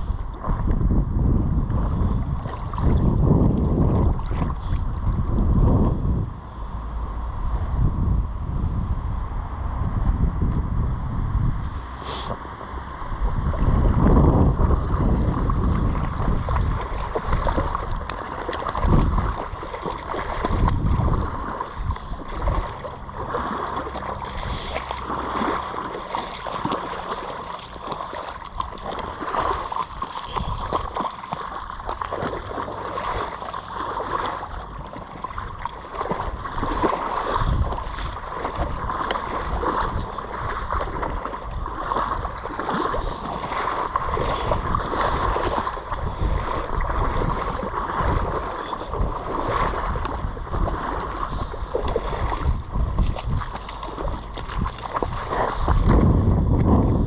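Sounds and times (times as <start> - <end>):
floodwater gurgling and sloshing: 0.0 - 57.0
low rumbles on microphone: 0.0 - 57.0.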